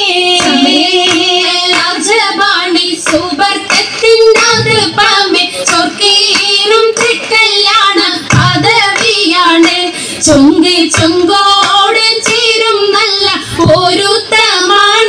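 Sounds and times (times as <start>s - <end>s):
girl singing: 0.0s - 15.0s
percussive beats: 0.0s - 15.0s.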